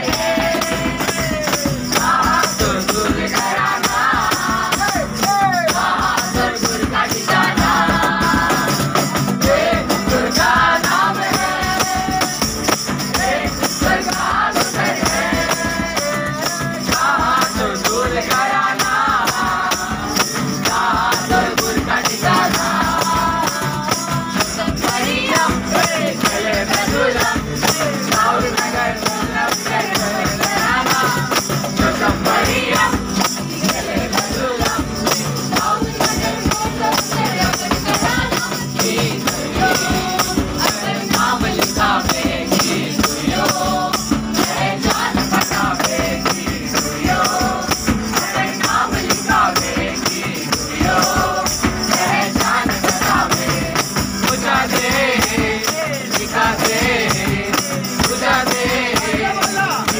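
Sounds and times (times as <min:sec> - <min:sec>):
group singing a carol: 0:00.0 - 0:59.9
tambourine jingling: 0:00.0 - 0:59.9.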